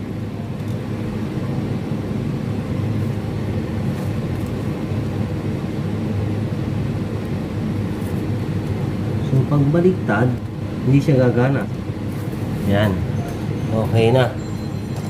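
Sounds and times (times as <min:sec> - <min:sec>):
machinery hum and rumble: 0:00.0 - 0:15.0.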